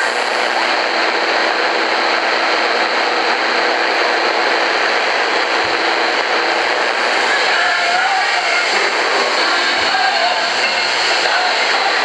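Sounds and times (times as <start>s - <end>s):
faint constant whine: 0.0s - 12.0s
radio static hiss: 0.0s - 12.0s.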